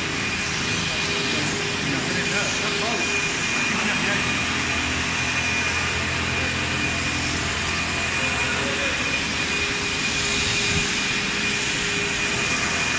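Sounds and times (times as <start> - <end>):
cleaning machine motor drone: 0.0 - 12.9
high whine: 0.0 - 12.9.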